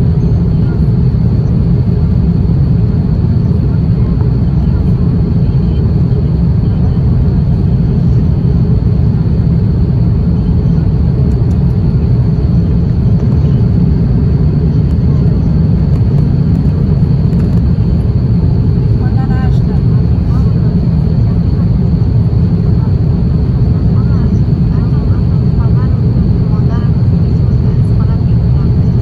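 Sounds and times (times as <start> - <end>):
airplane cabin engine roar: 0.0 - 29.0.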